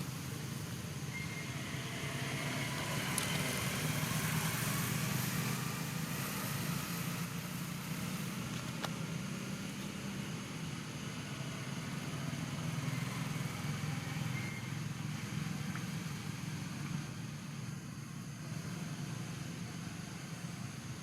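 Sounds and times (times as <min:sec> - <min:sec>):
hiss: 0:00.0 - 0:21.0
low engine hum: 0:00.0 - 0:21.0.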